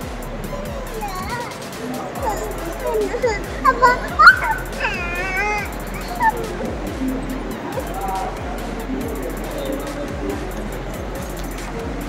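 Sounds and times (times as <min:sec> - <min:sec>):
fast high ticking: 0:00.0 - 0:12.0.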